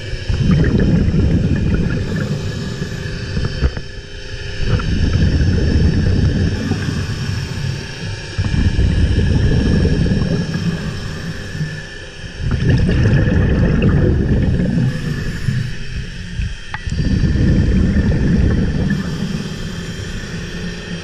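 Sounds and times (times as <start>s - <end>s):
diver breathing through regulator: 0.0s - 4.0s, 4.6s - 21.0s
exhaled bubbles rumbling: 0.0s - 21.0s.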